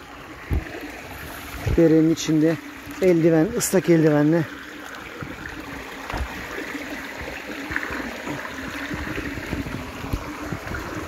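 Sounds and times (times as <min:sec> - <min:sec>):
creek water running over stones: 0:00.0 - 0:11.0.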